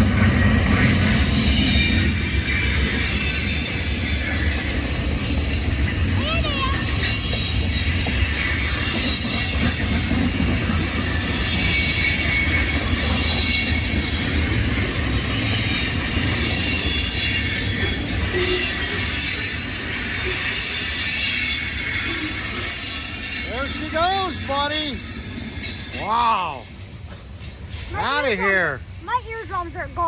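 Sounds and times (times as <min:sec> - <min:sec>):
high wheel squeal: 0:00.0 - 0:05.3, 0:06.2 - 0:29.8
train wheels rumbling on rail: 0:00.0 - 0:30.0.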